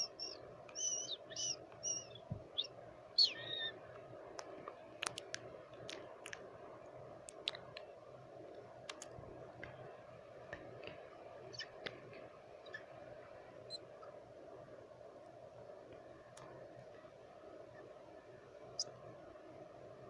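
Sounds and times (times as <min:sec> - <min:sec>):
white noise hiss: 0:00.0 - 0:20.0.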